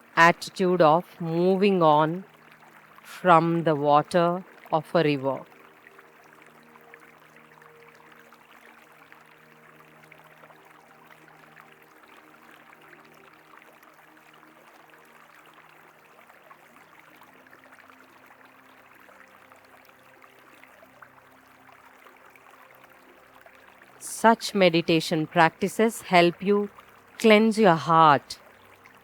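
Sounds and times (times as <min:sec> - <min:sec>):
river flowing: 0:00.0 - 0:29.0
soft sustained music tones: 0:00.0 - 0:29.0.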